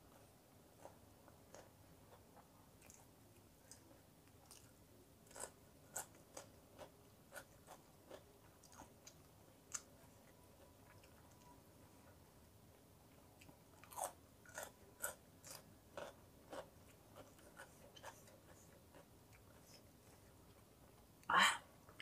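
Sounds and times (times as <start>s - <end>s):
person chewing and crunching: 0.1s - 11.5s, 13.1s - 20.6s.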